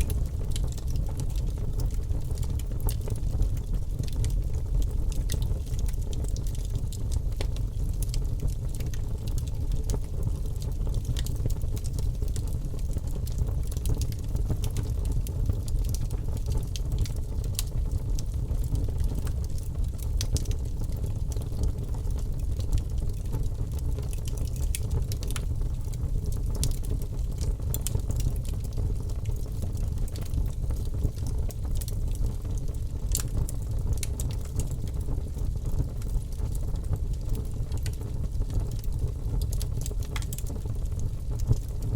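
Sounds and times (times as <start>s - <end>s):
low rumble of flame: 0.0s - 41.9s.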